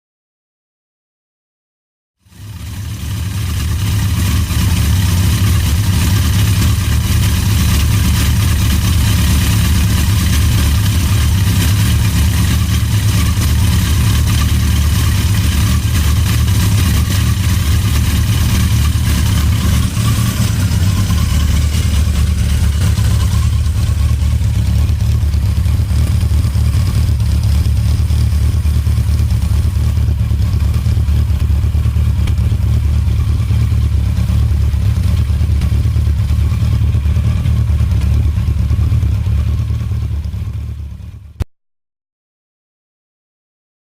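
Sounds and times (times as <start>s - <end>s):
motorcycle engine idling: 2.2s - 41.4s.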